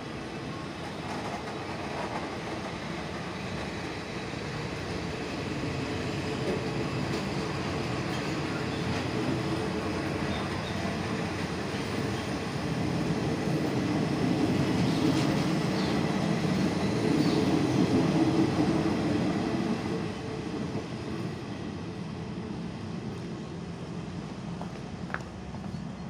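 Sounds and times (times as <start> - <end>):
train coaches rumbling past: 0.0 - 26.0.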